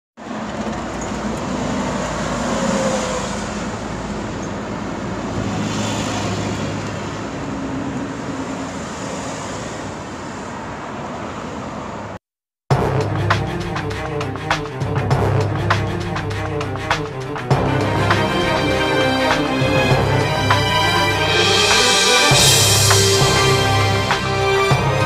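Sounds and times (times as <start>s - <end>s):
road traffic rushing: 0.2s - 25.0s.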